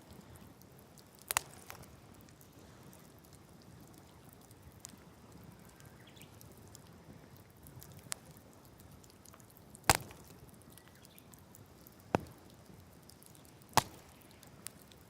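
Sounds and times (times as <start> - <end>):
campfire crackling and popping: 0.0 - 15.0
low steady hiss: 0.0 - 15.0.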